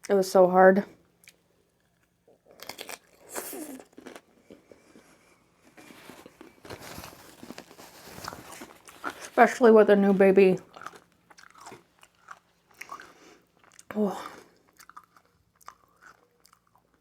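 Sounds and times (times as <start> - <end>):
crunching and chewing: 1.2 - 9.6, 10.6 - 17.0.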